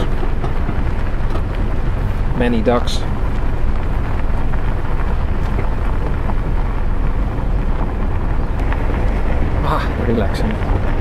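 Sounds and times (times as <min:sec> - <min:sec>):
road noise inside a vehicle: 0:00.0 - 0:11.0
wind buffeting: 0:00.0 - 0:11.0.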